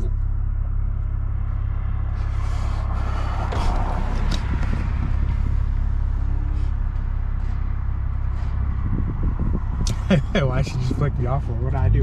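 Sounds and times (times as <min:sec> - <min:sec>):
car engine and exhaust rumble: 0:00.0 - 0:12.0
exhaust cracks: 0:00.0 - 0:12.0.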